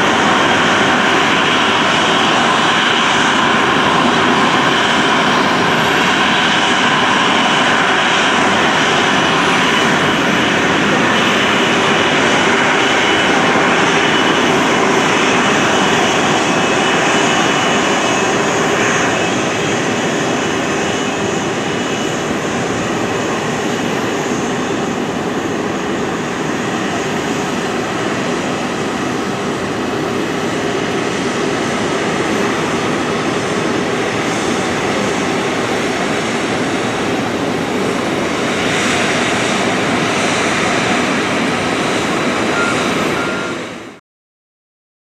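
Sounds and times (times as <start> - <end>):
jet engine roar: 0.0 - 44.0.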